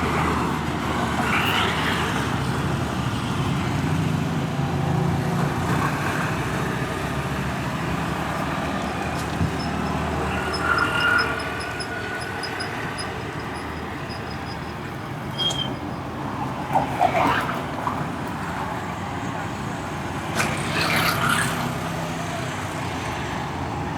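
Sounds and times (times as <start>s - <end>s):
street traffic noise: 0.0s - 23.9s.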